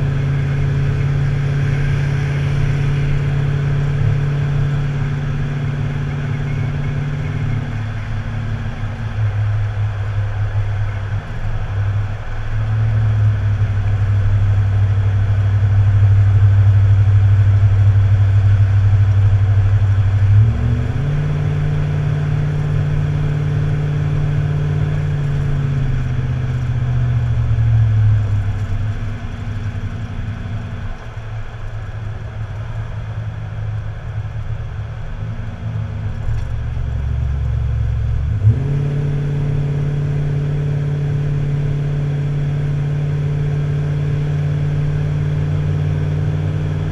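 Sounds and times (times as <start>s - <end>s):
vehicle engine running under load: 0.0s - 46.9s.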